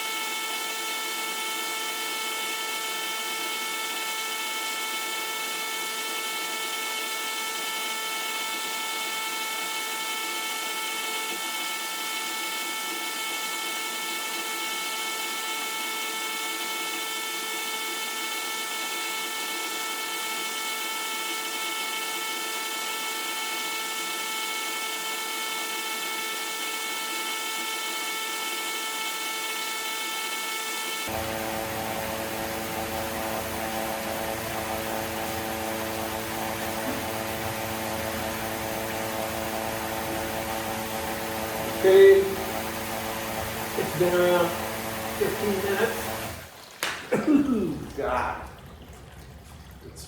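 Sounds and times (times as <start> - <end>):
electric pump humming: 0.0 - 50.0.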